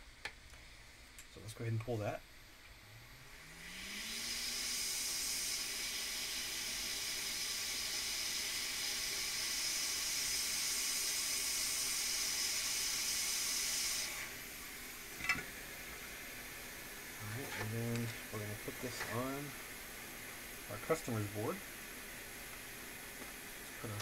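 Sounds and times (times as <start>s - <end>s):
hot air gun hissing: 3.4s - 24.0s.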